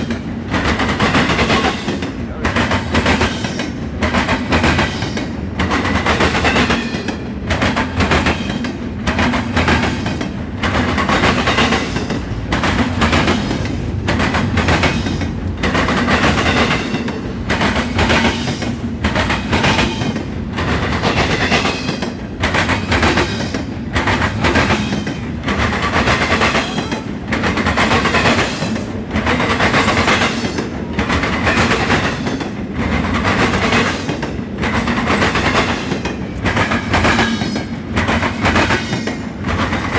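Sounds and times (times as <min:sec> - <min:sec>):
freight train rumble: 0:00.0 - 0:39.9
wheels clattering over rail joints: 0:00.0 - 0:39.9.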